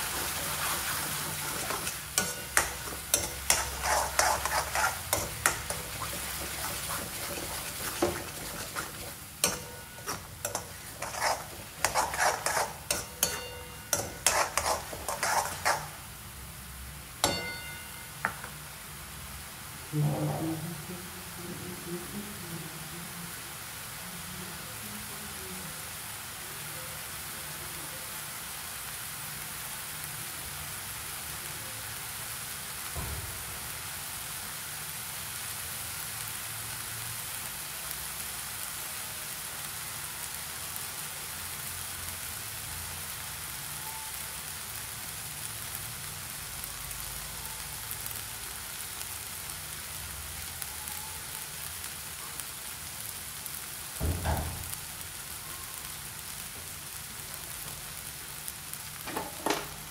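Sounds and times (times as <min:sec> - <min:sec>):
chicken sizzling in oil: 0:00.0 - 0:19.9, 0:21.8 - 0:59.9.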